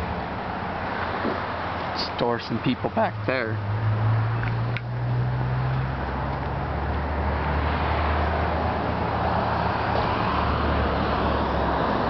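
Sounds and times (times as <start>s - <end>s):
rush of tyres and traffic: 0.0s - 12.0s.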